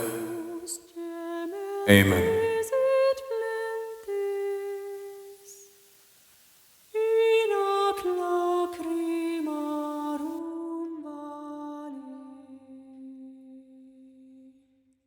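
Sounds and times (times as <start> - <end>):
person singing wordless melody: 0.0 - 5.6, 7.0 - 14.1.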